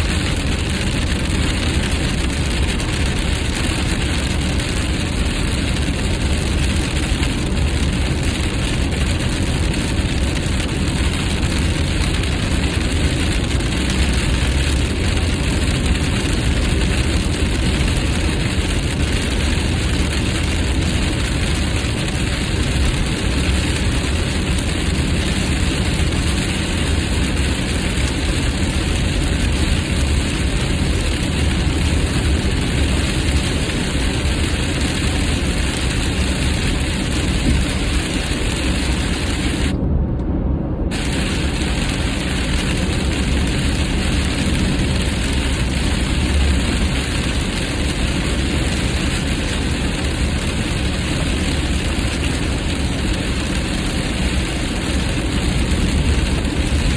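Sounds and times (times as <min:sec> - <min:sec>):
car cabin road and wind noise: 0:00.0 - 0:56.9.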